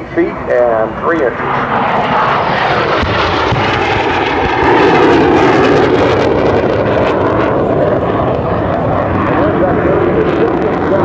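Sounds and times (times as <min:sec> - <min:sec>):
jet passing: 0:00.0 - 0:11.0.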